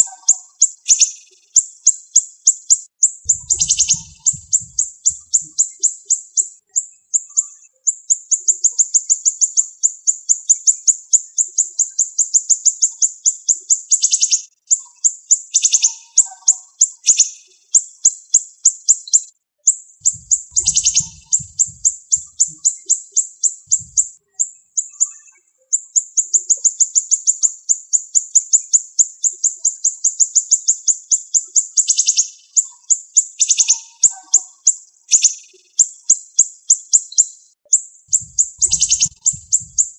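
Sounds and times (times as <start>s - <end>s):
songbird singing high chirps: 0.0s - 39.9s.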